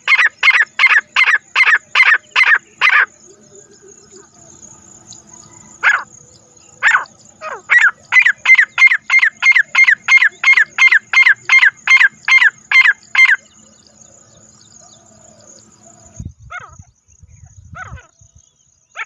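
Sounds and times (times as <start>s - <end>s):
francolin calling: 0.0s - 19.0s.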